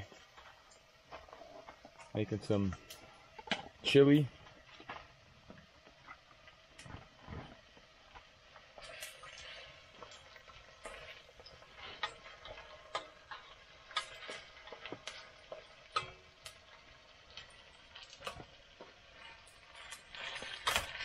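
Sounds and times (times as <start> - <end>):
faint sizzle: 0.0 - 21.0.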